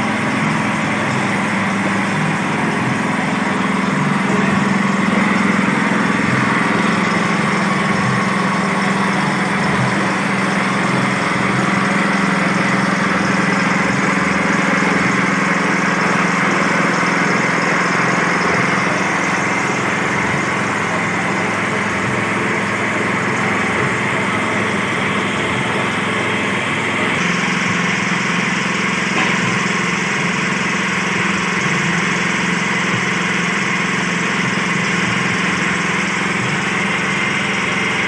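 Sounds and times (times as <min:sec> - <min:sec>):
small engine running steadily: 0:00.0 - 0:38.0.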